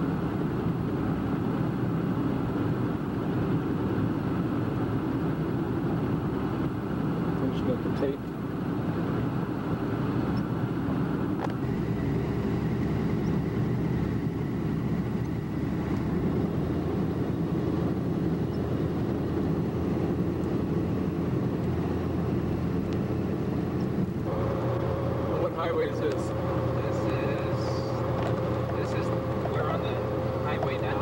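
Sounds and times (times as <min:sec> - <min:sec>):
car engine and tyre noise: 0:00.0 - 0:31.0.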